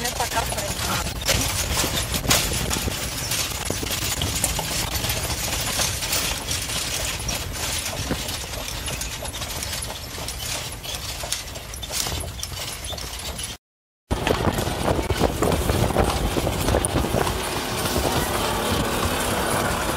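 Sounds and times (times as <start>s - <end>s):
road noise: 0.0s - 13.5s, 14.1s - 19.9s
cart rattling: 0.0s - 19.9s
hooves clip-clopping: 0.0s - 19.9s.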